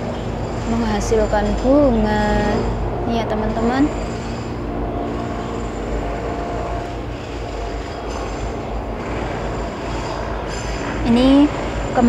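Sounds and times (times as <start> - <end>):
faint whine: 0.0 - 12.0
mechanical building work noise: 0.0 - 12.0.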